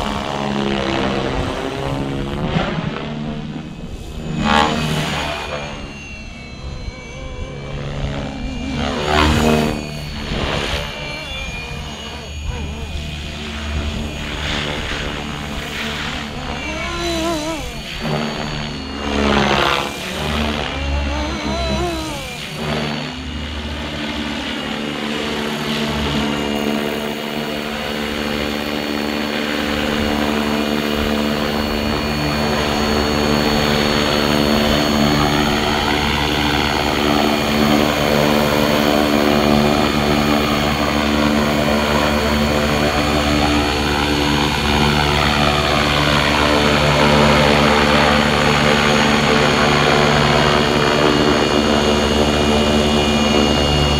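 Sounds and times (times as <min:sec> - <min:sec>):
rc helicopter motor whine: 0:00.0 - 0:53.9.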